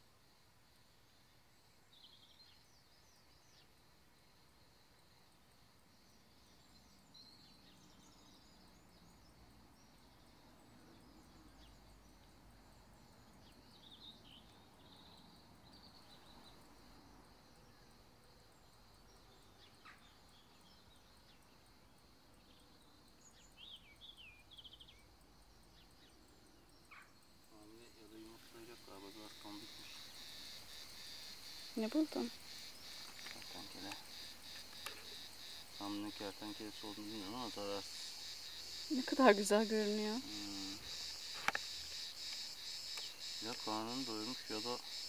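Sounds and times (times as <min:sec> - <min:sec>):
small birds chirping: 0:01.2 - 0:03.8, 0:06.0 - 0:45.0.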